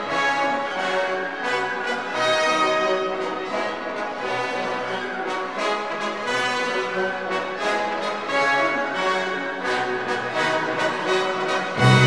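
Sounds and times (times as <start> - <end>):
orchestral background music: 0.0 - 12.0.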